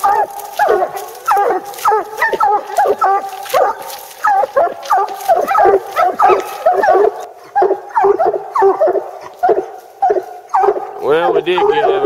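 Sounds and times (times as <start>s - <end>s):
dogs barking rapidly: 0.0s - 12.0s.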